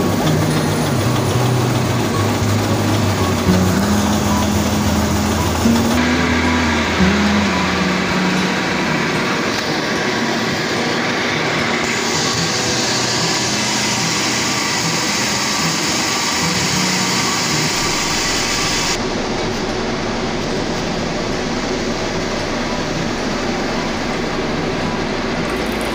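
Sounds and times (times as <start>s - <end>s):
vibrating sieve mechanical din: 0.0s - 25.9s.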